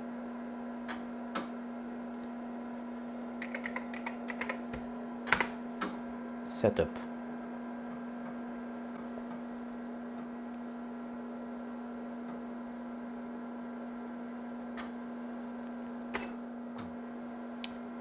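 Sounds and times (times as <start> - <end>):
computer electrical hum: 0.0 - 18.0.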